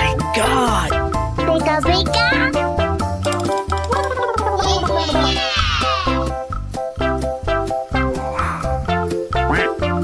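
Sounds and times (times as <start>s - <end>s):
upbeat children's music: 0.0s - 10.0s.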